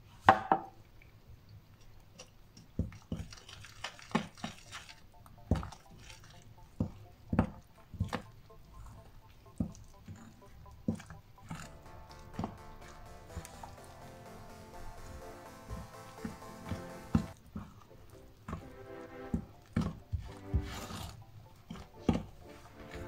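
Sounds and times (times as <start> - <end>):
soft wet squishing: 0.9 - 14.0, 16.2 - 23.0.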